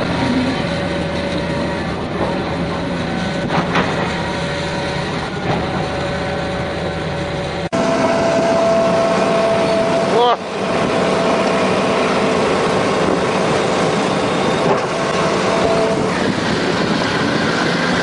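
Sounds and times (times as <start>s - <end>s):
diesel engine under load: 0.0s - 18.0s
engine with higher tone: 0.0s - 18.0s.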